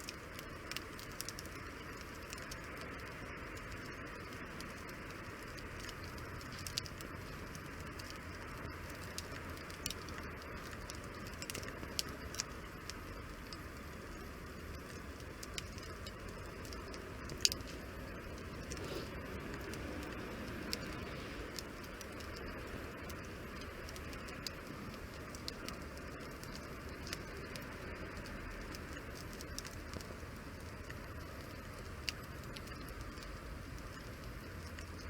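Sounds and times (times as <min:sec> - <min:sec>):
campfire hissing: 0:00.0 - 0:35.0
campfire popping and crackling: 0:00.0 - 0:35.0.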